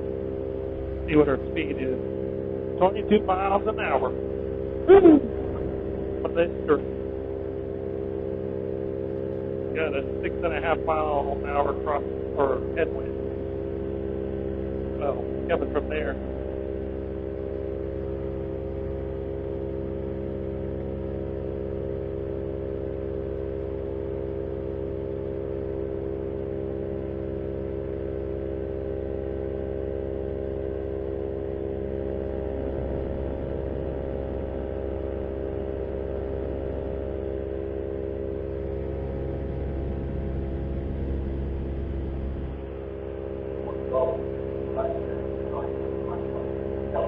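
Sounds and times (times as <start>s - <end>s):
paramotor engine droning: 0.0s - 47.0s.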